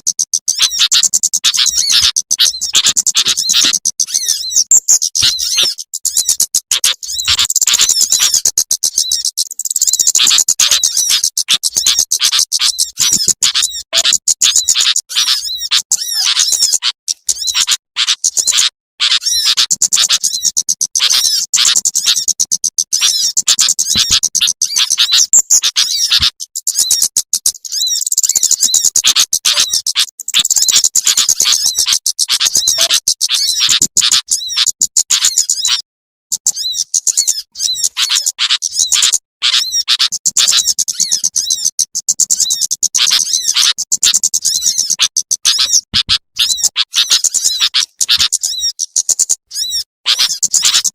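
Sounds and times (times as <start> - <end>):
small birds twittering: 0.0 - 50.9.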